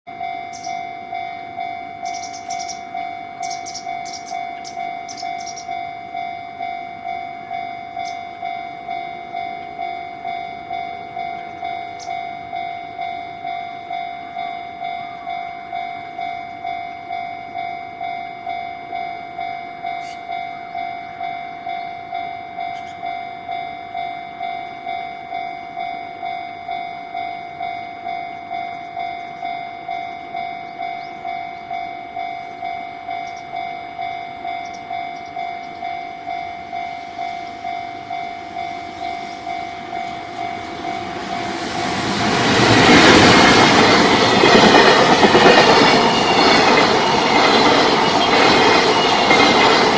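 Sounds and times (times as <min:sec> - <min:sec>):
level crossing bell dinging: 0:00.1 - 0:41.5.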